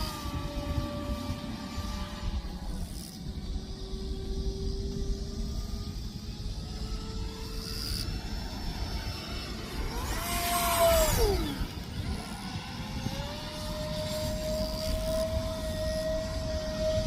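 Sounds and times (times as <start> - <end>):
electric ducted-fan jet whining: 0.0 - 17.0
wind rumble on microphone: 0.0 - 17.0.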